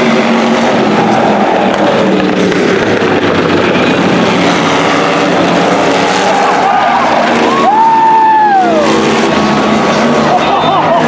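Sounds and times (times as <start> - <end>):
high whine: 0.0 - 11.0
race car engines running loud: 0.0 - 11.0.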